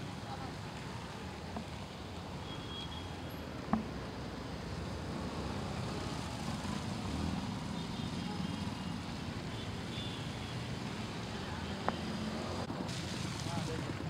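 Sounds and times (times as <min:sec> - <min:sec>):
motorcycles driving through floodwater: 0:00.0 - 0:14.0.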